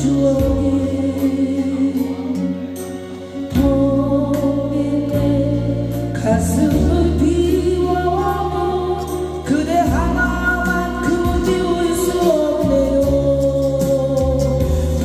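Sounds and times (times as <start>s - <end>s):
person singing ballad: 0.0s - 15.0s
slow instrumental accompaniment: 0.0s - 15.0s.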